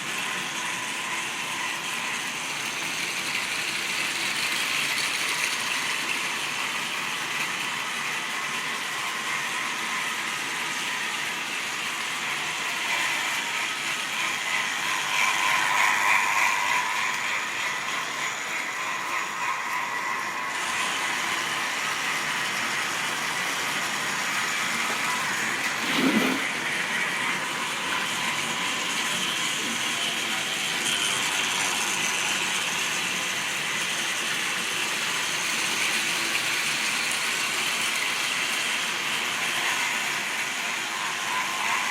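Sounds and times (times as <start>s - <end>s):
model train motor whirring: 0.0s - 41.9s.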